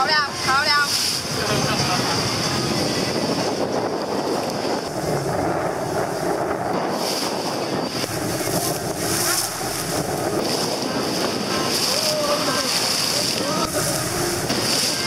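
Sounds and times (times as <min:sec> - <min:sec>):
boat motor and water rushing: 0:00.0 - 0:15.0
wind on microphone: 0:00.0 - 0:15.0.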